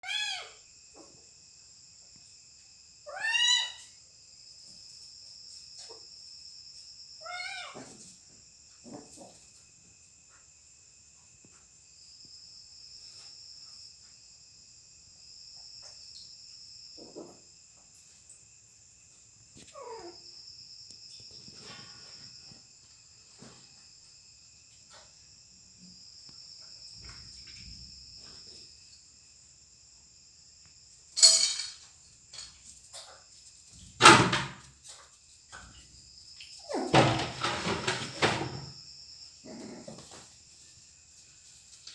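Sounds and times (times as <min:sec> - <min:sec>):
crickets chirring: 0:00.0 - 0:41.9.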